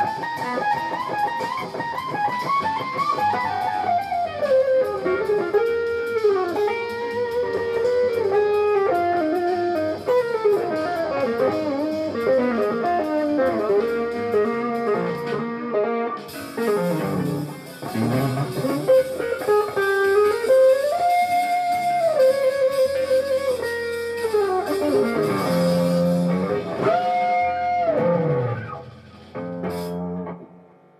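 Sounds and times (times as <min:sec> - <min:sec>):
jazz fusion electric guitar: 0:00.0 - 0:30.7.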